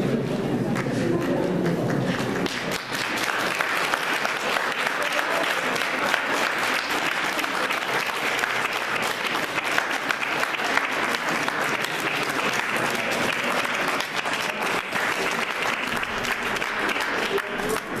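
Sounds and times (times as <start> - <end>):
audience clapping: 0.7 - 18.0.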